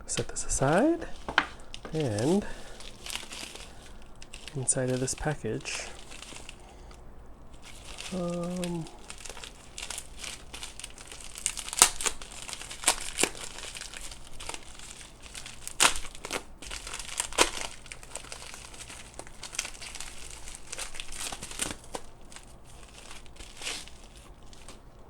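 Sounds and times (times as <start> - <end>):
packaging crinkling: 0.0 - 25.0.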